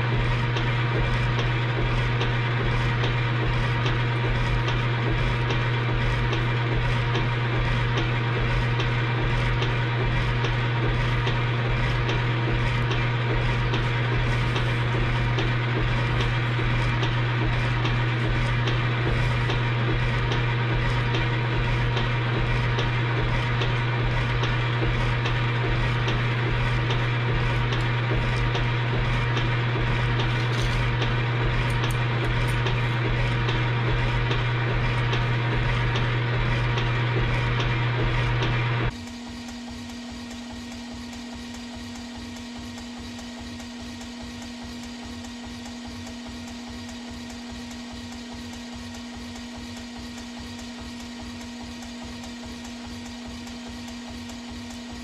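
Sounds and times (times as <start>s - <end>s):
machine tool humming: 0.0s - 55.0s.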